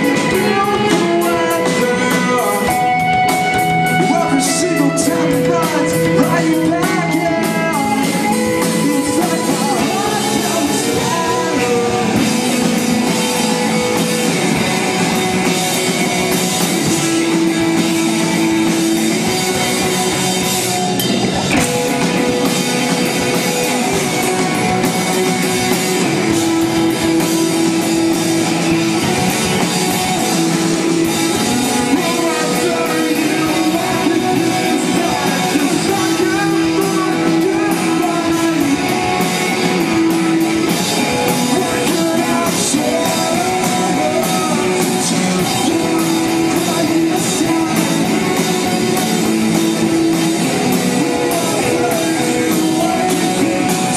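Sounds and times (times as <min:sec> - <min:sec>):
person singing: 0:00.0 - 0:53.9
rock band playing live: 0:00.0 - 0:53.9.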